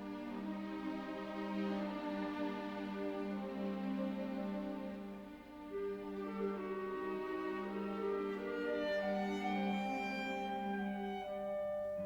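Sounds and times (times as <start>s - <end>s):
orchestral strings holding notes: 0.0s - 12.0s.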